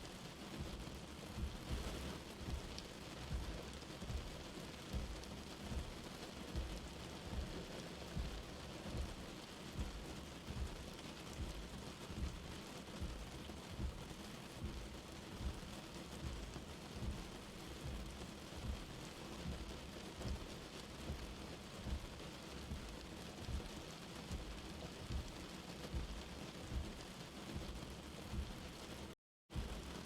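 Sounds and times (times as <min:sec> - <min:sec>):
light rain falling: 0:00.0 - 0:30.0
soft low thumps: 0:00.5 - 0:28.8, 0:29.5 - 0:30.0.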